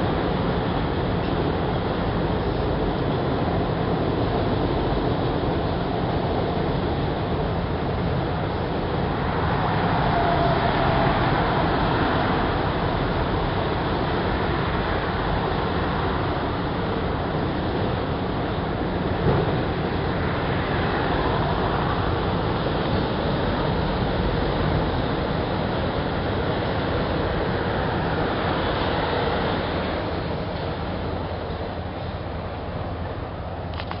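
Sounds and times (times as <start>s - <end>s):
freight train wheels rumbling on rail: 0.0s - 34.0s.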